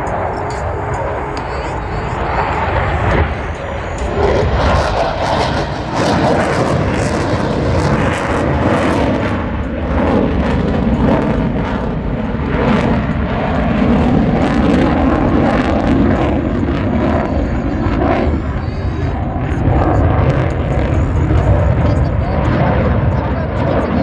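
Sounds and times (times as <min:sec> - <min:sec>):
jets flying overhead: 0:00.0 - 0:24.0.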